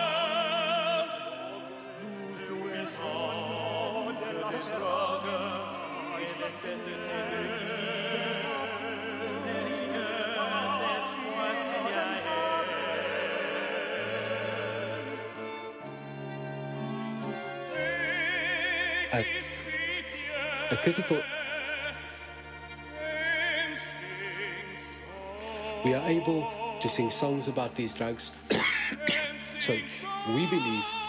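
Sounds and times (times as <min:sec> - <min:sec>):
operatic singing with vibrato: 0:00.0 - 0:31.0.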